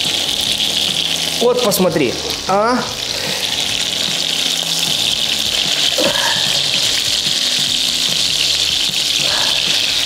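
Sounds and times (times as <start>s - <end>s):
meat sizzling in frying pan: 0.0s - 10.0s.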